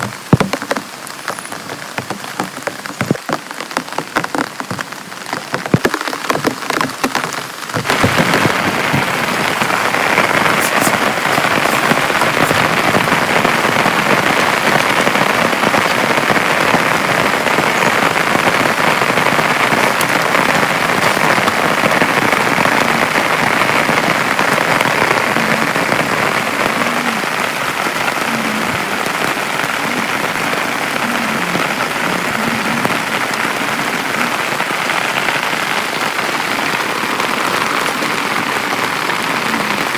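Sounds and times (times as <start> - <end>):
heavy rain: 0.0 - 39.9
raindrops pattering: 0.0 - 39.9.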